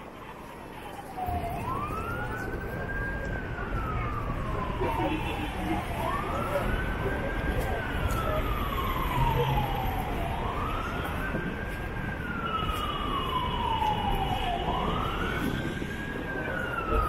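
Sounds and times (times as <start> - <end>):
emergency siren wailing: 0.0 - 17.0
street noise: 0.0 - 17.0.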